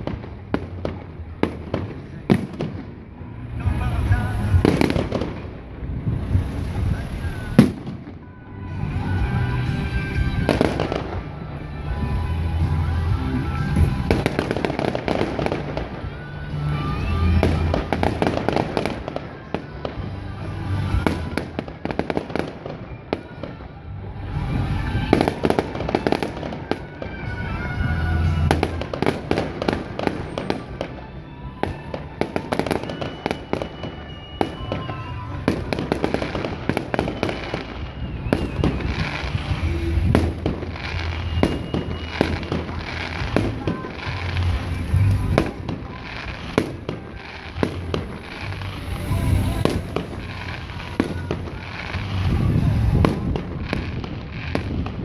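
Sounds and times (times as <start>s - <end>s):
fireworks bangs and crackles: 0.0s - 55.0s
music: 0.0s - 55.0s.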